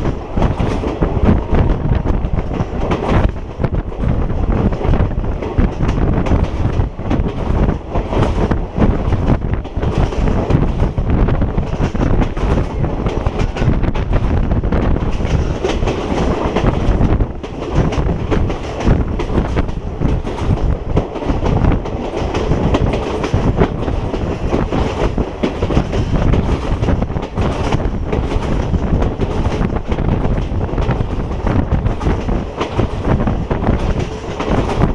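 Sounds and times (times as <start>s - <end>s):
train wheels clattering on rails: 0.0s - 34.9s.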